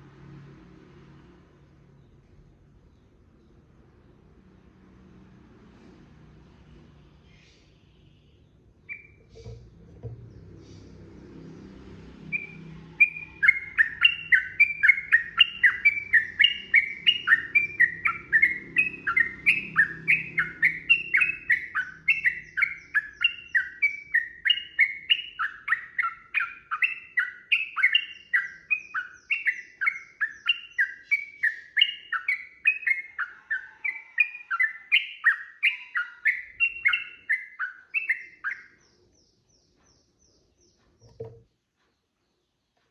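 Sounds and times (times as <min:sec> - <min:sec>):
bird chirping song: 0:00.0 - 0:04.9, 0:06.4 - 0:42.9.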